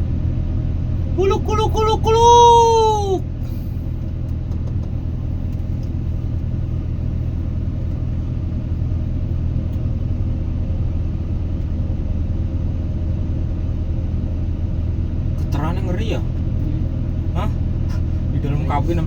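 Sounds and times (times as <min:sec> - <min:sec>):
diesel machinery droning: 0:00.0 - 0:19.0.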